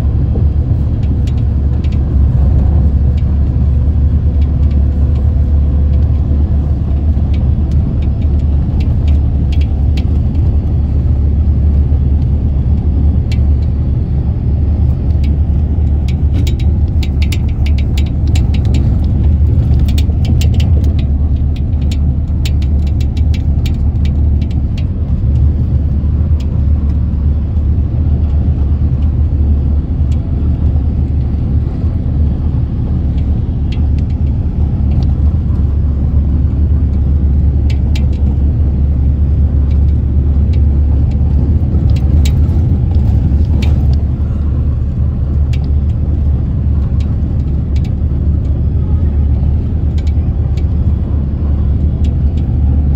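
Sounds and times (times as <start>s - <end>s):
vehicle rumble from inside: 0.0s - 52.9s
sharp clicks and rattles: 0.2s - 29.4s, 30.0s - 52.9s.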